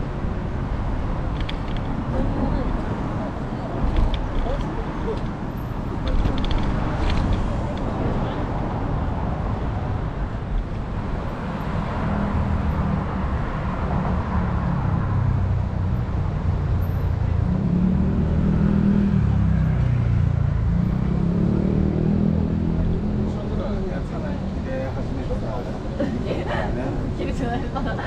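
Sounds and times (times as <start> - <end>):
vehicles passing: 0.0 - 28.0.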